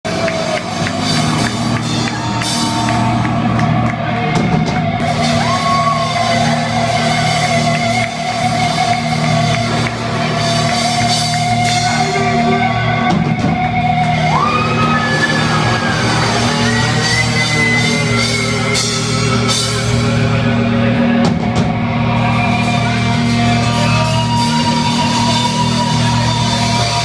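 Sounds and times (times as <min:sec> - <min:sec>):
drums: 0:00.0 - 0:27.0
heavy metal band playing live: 0:00.0 - 0:27.0
distorted electric guitar bending notes: 0:00.1 - 0:27.0.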